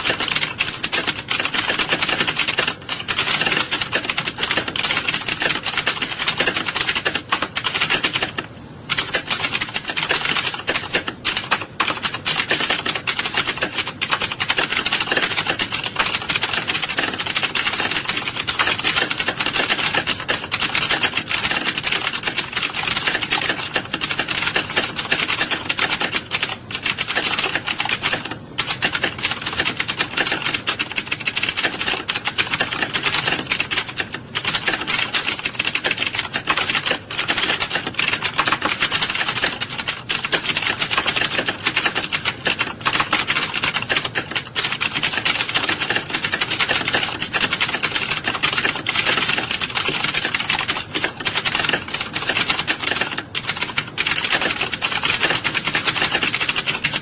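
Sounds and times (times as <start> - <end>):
many keyboards clattering: 0.0 - 57.0.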